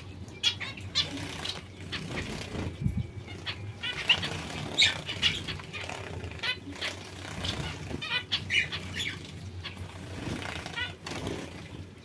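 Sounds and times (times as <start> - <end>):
finches chirping: 0.0 - 11.5
wings fluttering: 0.9 - 12.0.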